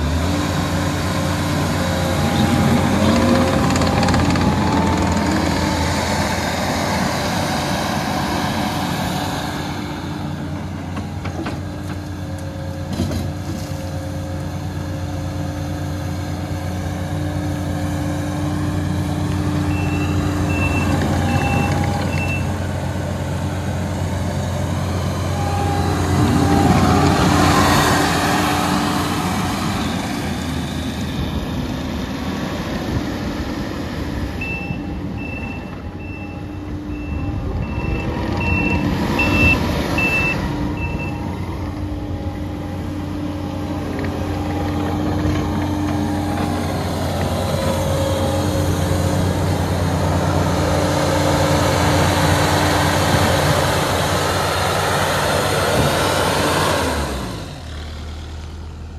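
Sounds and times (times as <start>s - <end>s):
track loader diesel engine: 0.0s - 58.9s.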